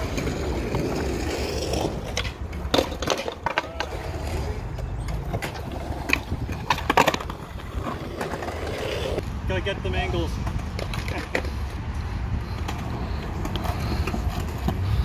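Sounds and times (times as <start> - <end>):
skateboard clacks: 0.0 - 9.2, 10.4 - 11.8, 12.6 - 15.0
skateboard wheels rolling on concrete: 0.0 - 15.0.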